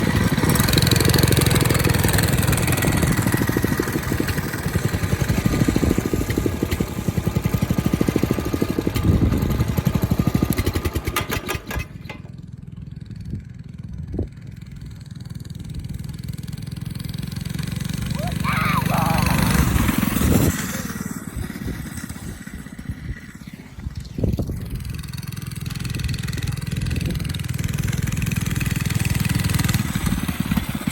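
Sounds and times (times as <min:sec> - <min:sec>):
small bike engine running: 0:00.0 - 0:30.9.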